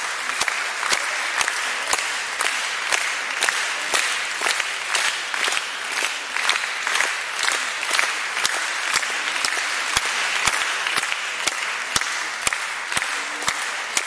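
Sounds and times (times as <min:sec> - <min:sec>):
audience applauding: 0:00.0 - 0:14.0
close single person clapping: 0:00.0 - 0:14.0.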